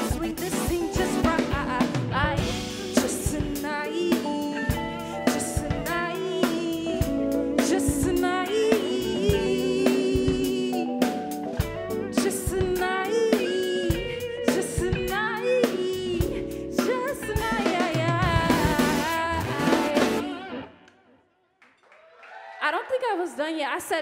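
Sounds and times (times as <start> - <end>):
woman singing: 0.0 - 11.4, 12.0 - 20.8
live band playing: 0.0 - 20.6.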